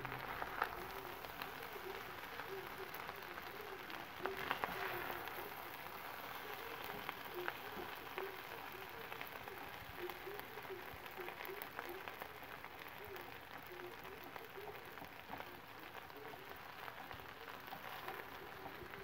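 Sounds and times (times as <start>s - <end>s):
rice sizzling and crackling: 0.0s - 19.0s.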